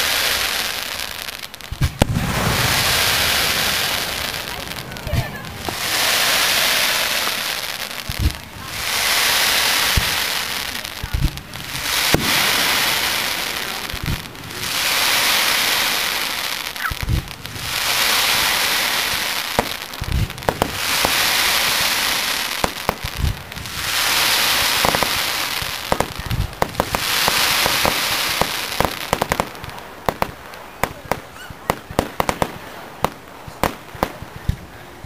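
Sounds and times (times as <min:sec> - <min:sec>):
fireworks booming: 0:00.0 - 0:34.8
crackling hiss of fireworks: 0:00.0 - 0:35.0.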